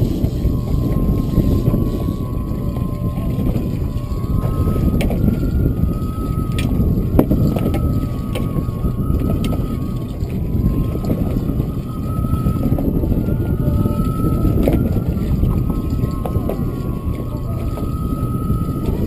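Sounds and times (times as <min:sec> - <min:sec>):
faint thin whine: 0:00.0 - 0:19.0
water noise: 0:00.0 - 0:19.0
wind: 0:00.0 - 0:19.0.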